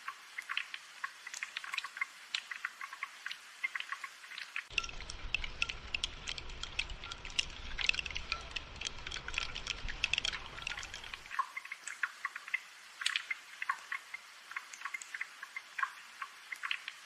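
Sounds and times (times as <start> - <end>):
dense rain with low rumble: 0.0 - 17.0
rain drips and patters: 0.0 - 17.0.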